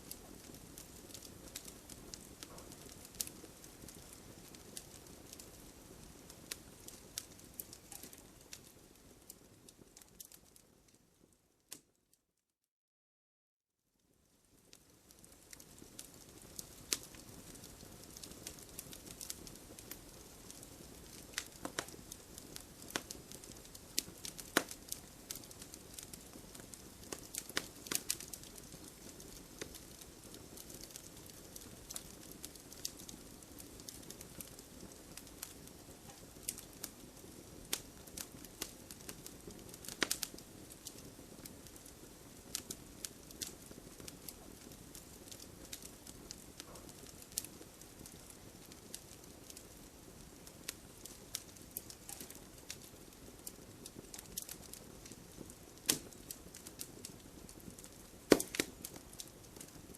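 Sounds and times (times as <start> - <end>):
soft fire hiss: 0.0 - 12.0, 14.0 - 59.9
wood fire crackling and popping: 0.0 - 12.0, 14.0 - 59.9.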